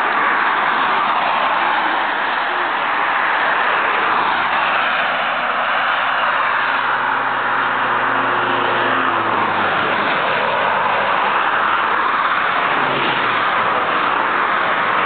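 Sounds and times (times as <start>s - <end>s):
low engine hum: 0.0s - 15.0s
road traffic roar: 0.0s - 15.0s.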